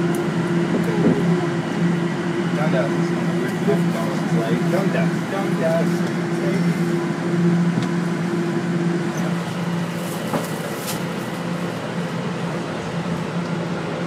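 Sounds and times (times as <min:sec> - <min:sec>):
wheels rumbling on track: 0:00.0 - 0:14.0.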